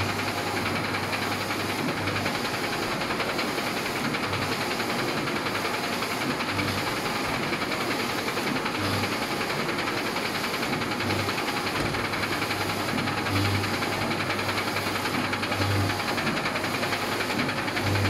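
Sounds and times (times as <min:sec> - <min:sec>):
printer carriage whirring and rattling: 0:00.0 - 0:18.0.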